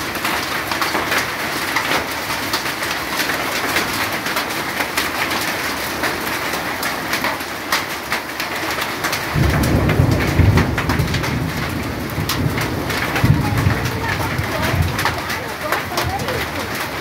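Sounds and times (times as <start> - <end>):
hailstones ticking on surfaces: 0.0 - 17.0
heavy rain pouring: 0.0 - 17.0.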